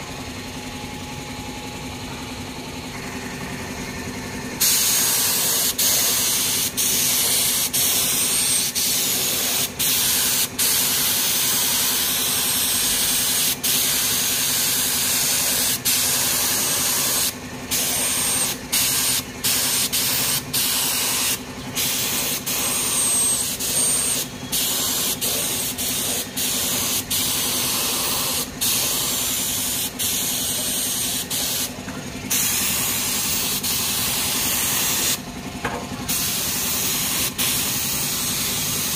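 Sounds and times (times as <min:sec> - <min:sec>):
paint spray hissing: 0:04.6 - 0:31.7, 0:32.3 - 0:35.2, 0:36.1 - 0:38.9.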